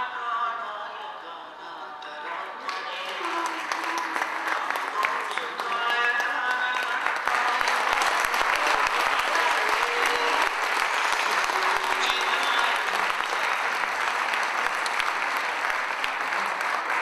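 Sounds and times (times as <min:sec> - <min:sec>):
audience applauding: 0:02.3 - 0:17.0.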